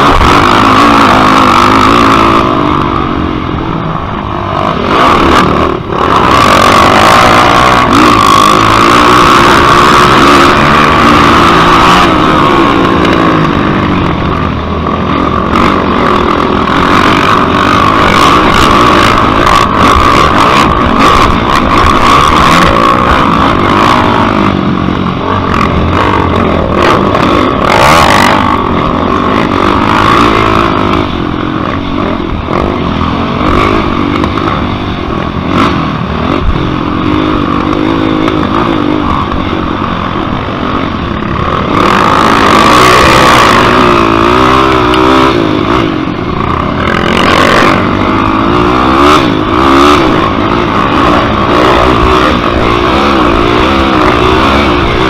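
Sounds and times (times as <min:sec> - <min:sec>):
quad engine revving: 0:00.0 - 0:55.0
rushing noise: 0:00.0 - 0:55.0.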